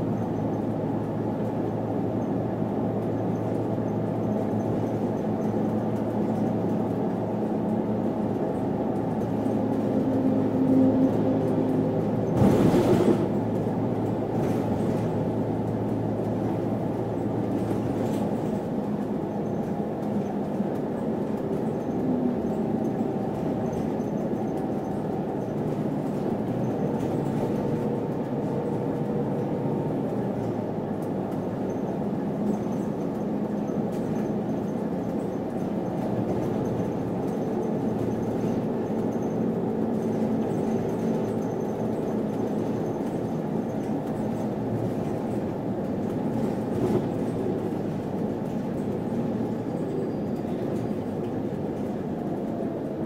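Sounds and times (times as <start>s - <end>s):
city bus engine and road noise: 0.0s - 53.0s.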